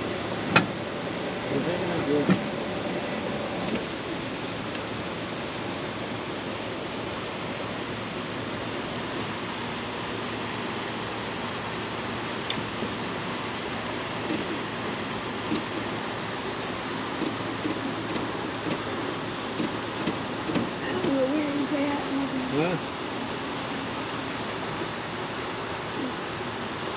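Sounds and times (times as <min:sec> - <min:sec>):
river water rushing through gates: 0:00.0 - 0:26.9.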